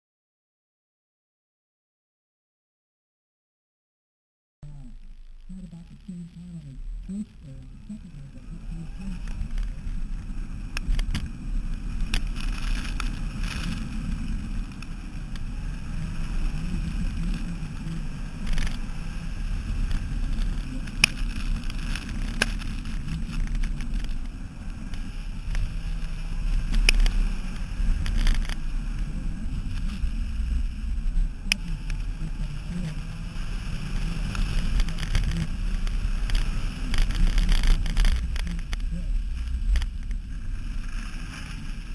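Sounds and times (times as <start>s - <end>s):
tyre and engine noise: 4.6s - 41.9s.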